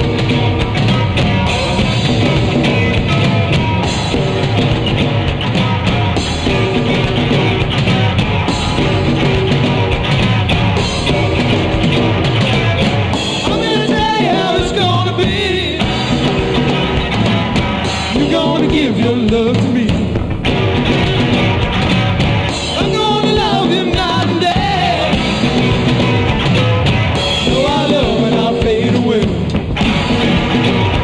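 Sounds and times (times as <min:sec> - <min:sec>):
live rock band: 0:00.0 - 0:31.0.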